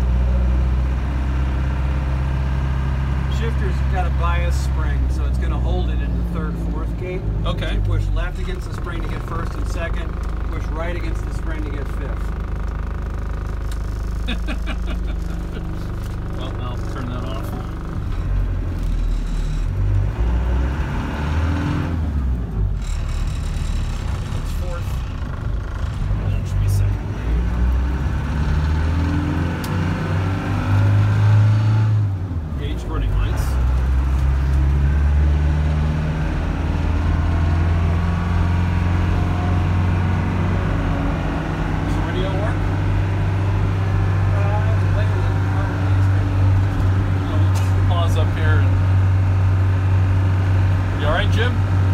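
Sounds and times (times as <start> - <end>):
car engine from inside cab: 0.0 - 51.9
road noise: 0.0 - 51.9.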